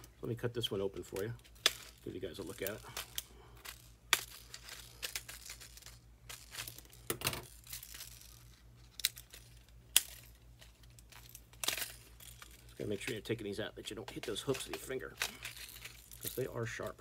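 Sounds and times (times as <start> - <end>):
plastic packaging crinkling: 1.0 - 17.0.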